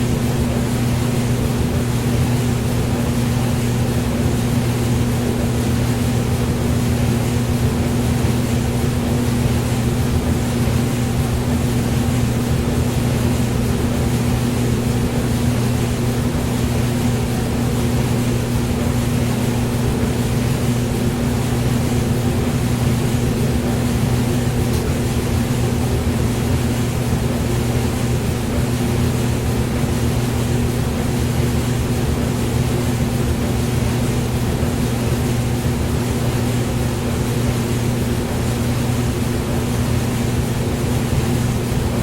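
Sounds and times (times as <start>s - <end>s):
hair dryer running: 0.0s - 42.0s.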